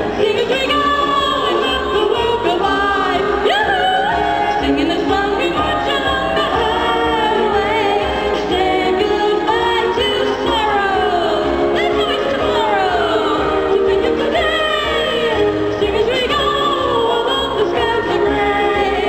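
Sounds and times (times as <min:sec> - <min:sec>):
musical accompaniment: 0:00.0 - 0:19.0
woman singing through pa: 0:00.1 - 0:19.0.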